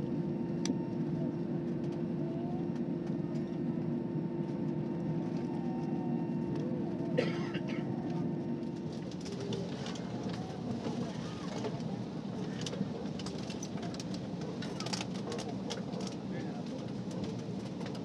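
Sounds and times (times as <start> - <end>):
airliner cabin drone: 0.0 - 18.0
constant hum tone: 0.0 - 18.0
faint passenger voices: 0.1 - 18.0.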